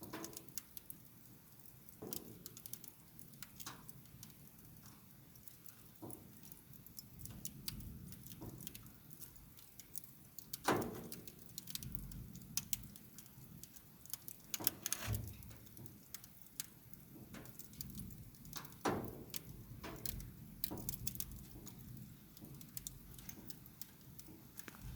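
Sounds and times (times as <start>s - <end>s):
wood fire crackling: 0.0s - 24.9s.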